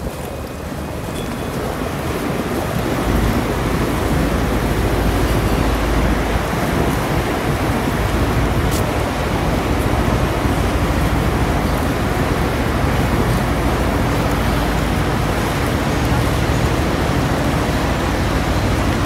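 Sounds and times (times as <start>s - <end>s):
ferry engine and propeller wash: 0.0s - 19.0s
wind on microphone: 0.0s - 19.0s.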